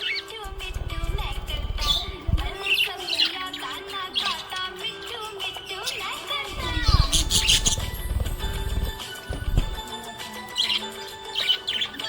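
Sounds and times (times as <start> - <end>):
budgie chirping: 0.0 - 4.9, 5.7 - 12.0
background music: 0.0 - 12.0.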